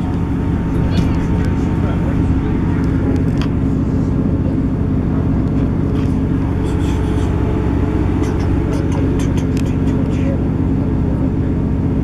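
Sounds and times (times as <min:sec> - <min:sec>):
diesel engine hum: 0:00.0 - 0:12.0
wheels rumbling on track: 0:00.0 - 0:12.0.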